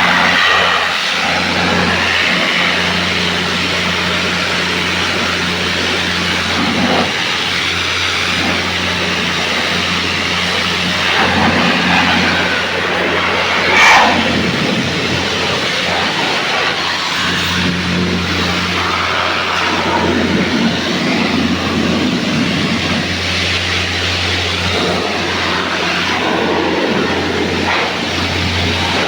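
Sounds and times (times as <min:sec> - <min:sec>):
electric machine hum: 0:00.0 - 0:29.0.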